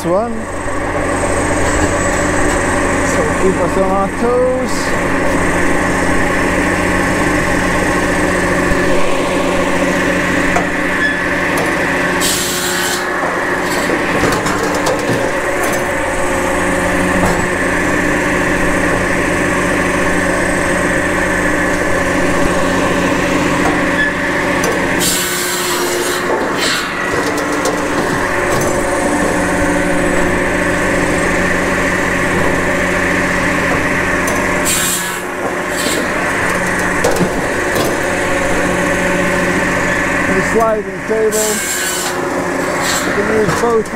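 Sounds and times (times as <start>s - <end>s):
firewood processor running: 0.0s - 43.9s
circular saw cutting wood: 0.2s - 43.9s.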